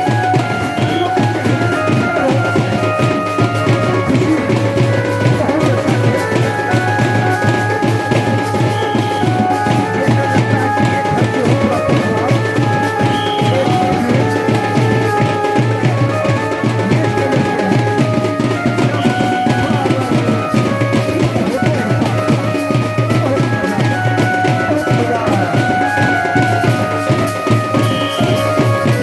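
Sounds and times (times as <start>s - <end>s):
fast steady drumming: 0.0s - 29.0s
held melody notes: 0.0s - 29.0s.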